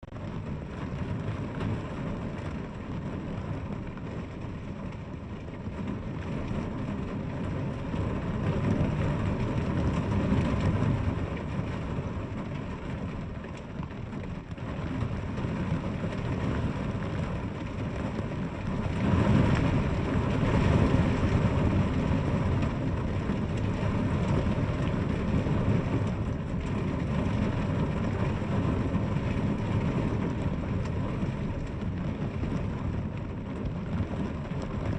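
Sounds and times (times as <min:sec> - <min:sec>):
heavy rainfall: 0:00.0 - 0:34.9.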